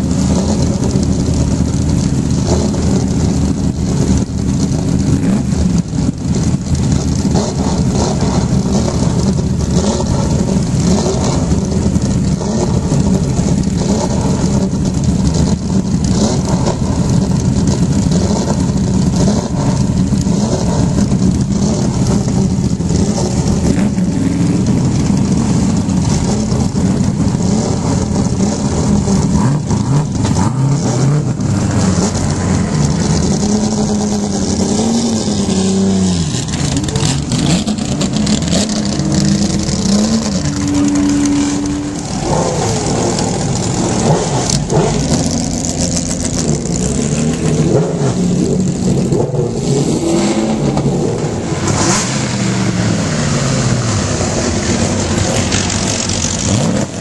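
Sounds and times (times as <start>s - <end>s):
racing car engines revving: 0.0s - 57.0s.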